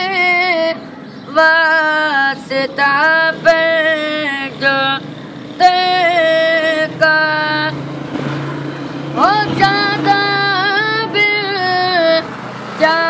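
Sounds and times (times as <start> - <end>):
boy singing unaccompanied: 0.0 - 7.8, 9.2 - 13.0.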